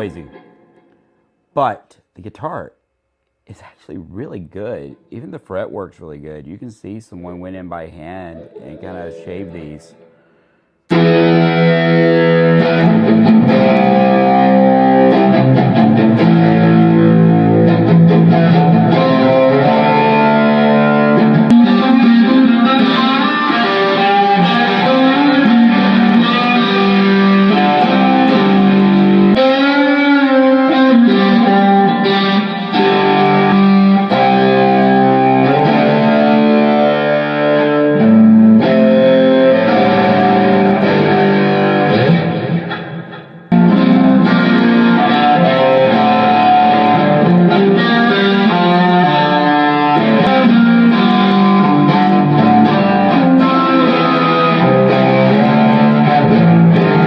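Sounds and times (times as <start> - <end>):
distorted electric guitar: 0.0 - 1.4, 8.0 - 57.0.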